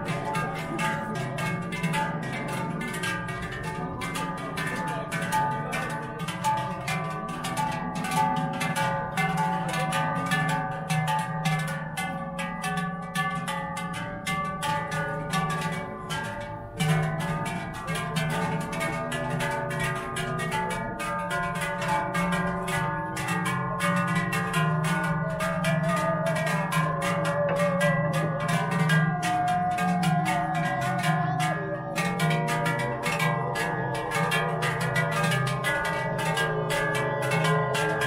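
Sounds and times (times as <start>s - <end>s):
large cowbells clanging: 0.0s - 38.0s.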